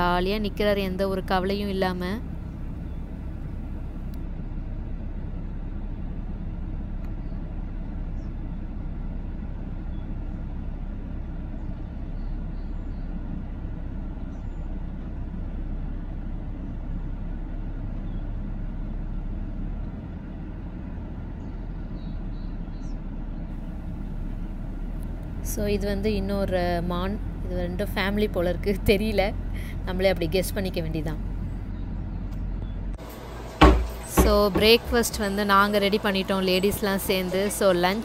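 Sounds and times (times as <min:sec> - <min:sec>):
car engine rumble: 0:00.0 - 0:38.0.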